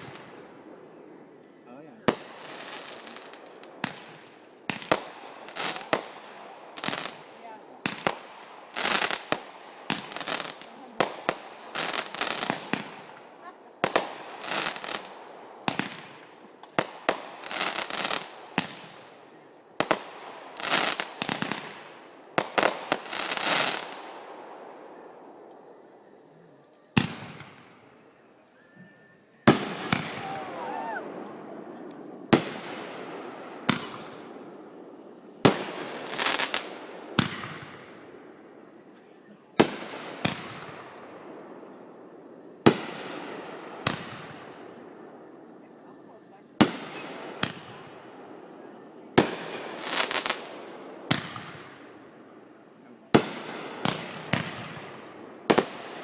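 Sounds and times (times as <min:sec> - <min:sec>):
fireworks bangs and crackling: 0:00.0 - 0:25.8, 0:26.9 - 0:28.1, 0:29.4 - 0:56.0.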